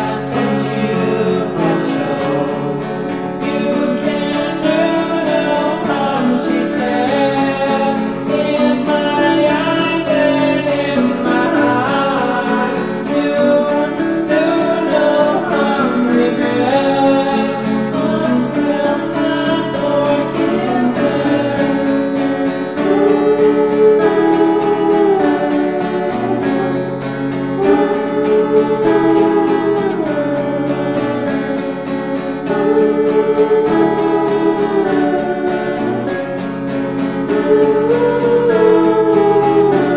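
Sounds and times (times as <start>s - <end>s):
guitar accompaniment: 0.0s - 39.9s
person singing: 0.0s - 39.9s.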